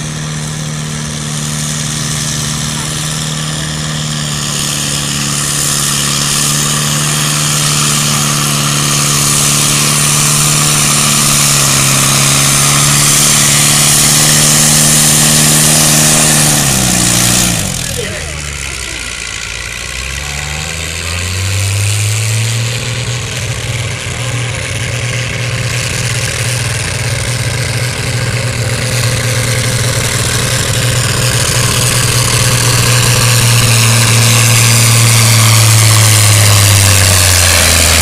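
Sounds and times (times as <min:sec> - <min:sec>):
tractor engine at full throttle: 0:00.0 - 0:38.0.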